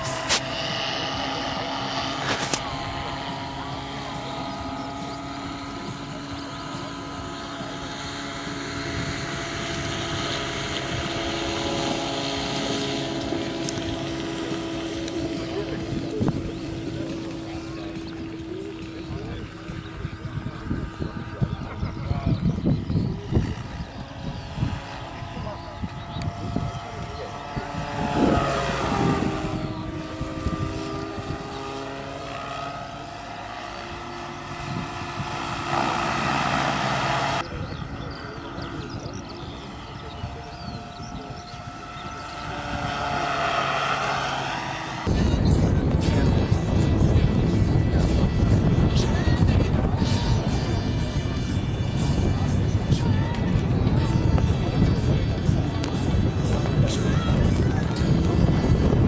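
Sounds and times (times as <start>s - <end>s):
model helicopter rotors whining: 0.0s - 59.0s.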